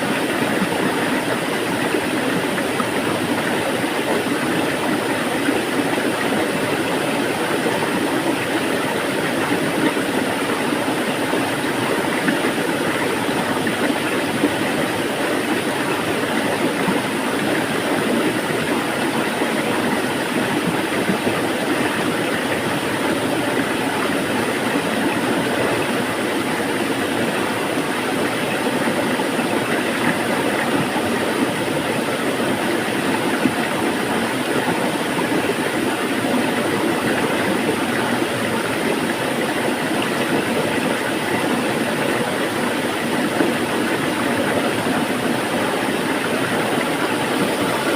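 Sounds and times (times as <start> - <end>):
water flowing: 0.0 - 47.9.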